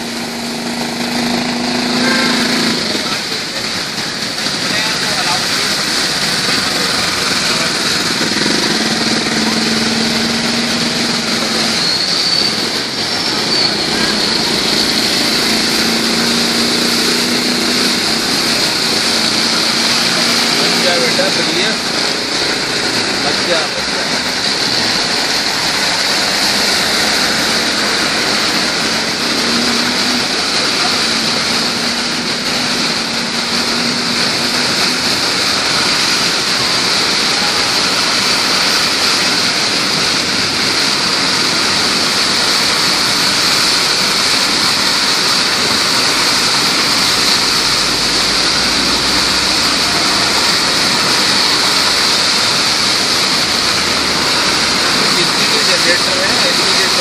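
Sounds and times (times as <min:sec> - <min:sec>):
heavy rain: 0:00.0 - 0:57.0
water rushing across road: 0:00.0 - 0:57.0.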